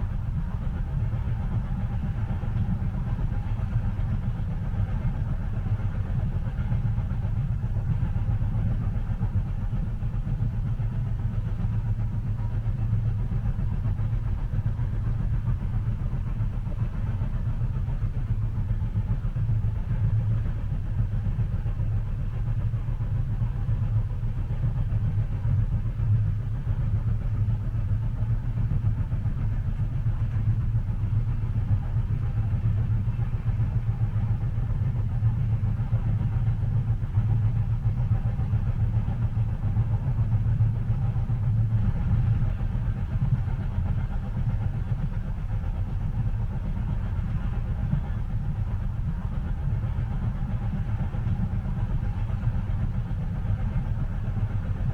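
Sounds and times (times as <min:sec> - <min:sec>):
train running rumble: 0:00.0 - 0:54.9.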